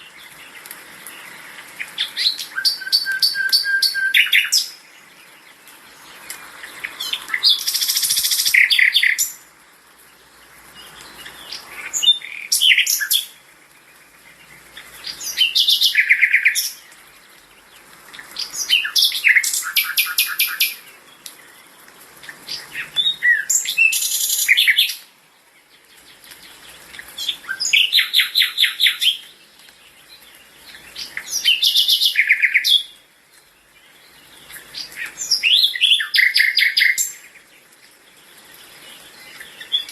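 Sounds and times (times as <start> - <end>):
songbird singing chirps and trills: 0.0 - 39.9.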